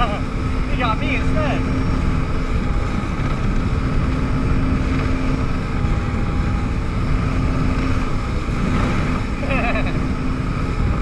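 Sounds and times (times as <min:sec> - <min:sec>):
jet ski engine drone: 0:00.0 - 0:11.0
rushing water and wind: 0:00.0 - 0:11.0.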